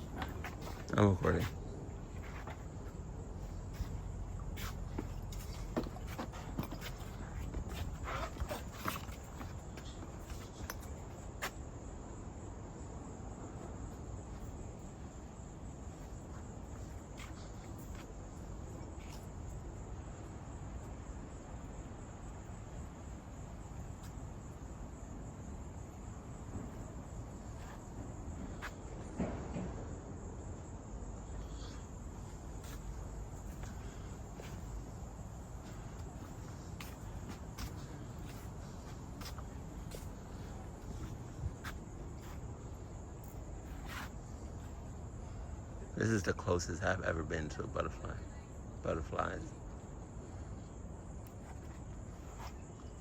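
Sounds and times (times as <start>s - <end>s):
crickets droning: 0.0s - 53.0s.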